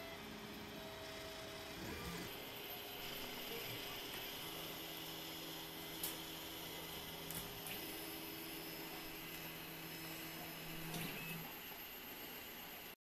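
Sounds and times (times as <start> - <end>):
printer motors and fans humming: 0.0 - 13.0.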